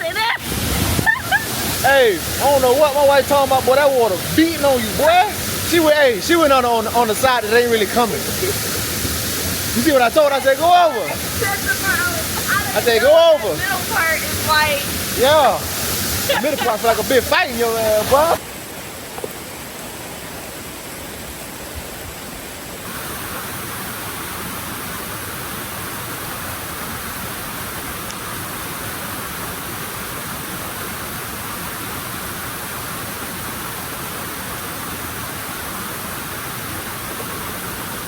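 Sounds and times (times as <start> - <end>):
waterfall pouring: 0.0 - 20.0, 22.8 - 38.0.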